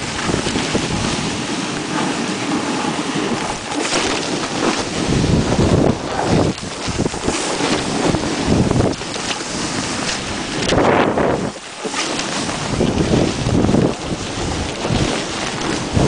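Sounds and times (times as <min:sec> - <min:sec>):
snowboard scraping over snow: 0:00.0 - 0:16.0
wind rushing over microphone: 0:00.0 - 0:16.0.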